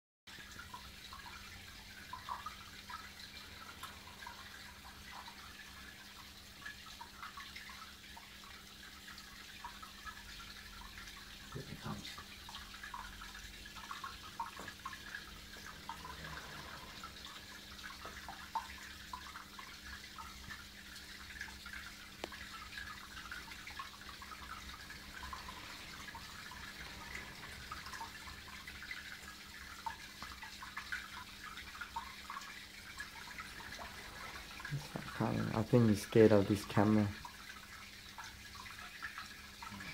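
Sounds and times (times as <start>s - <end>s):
low steady hum: 0.3s - 39.9s
water drips and bubbles: 0.3s - 39.9s
water trickling and splashing: 0.3s - 39.9s.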